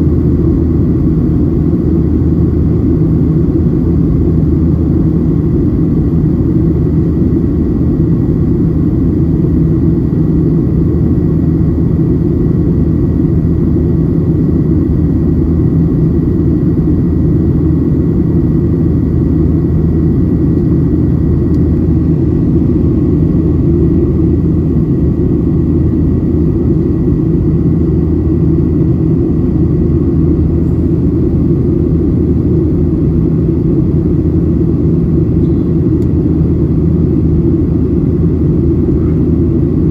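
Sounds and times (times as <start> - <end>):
jet engine drone in cabin: 0.0 - 39.9
thin steady whine: 0.0 - 39.9.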